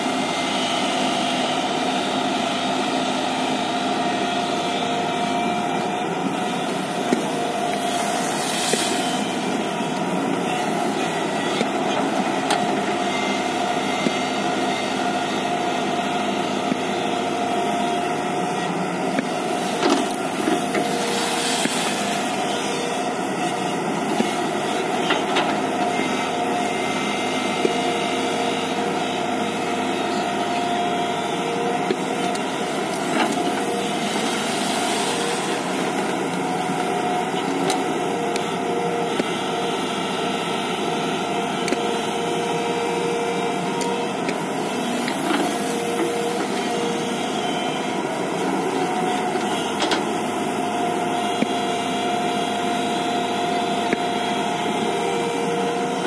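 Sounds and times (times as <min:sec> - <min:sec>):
excavator running: 0:00.0 - 0:56.0.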